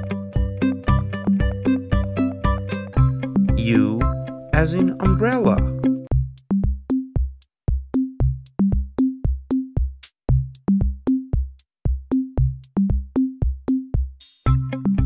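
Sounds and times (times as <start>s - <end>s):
drum machine beat: 0.4s - 15.0s.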